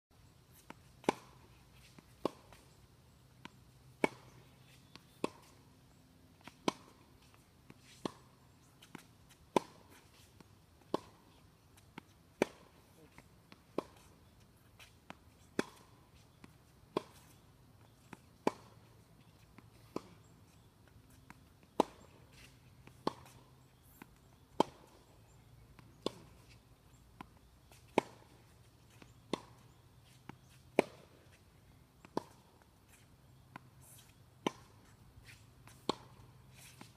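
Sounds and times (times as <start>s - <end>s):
tennis ball struck by racket: 0.5s - 2.7s, 3.4s - 5.7s, 6.3s - 31.4s, 32.0s - 36.9s.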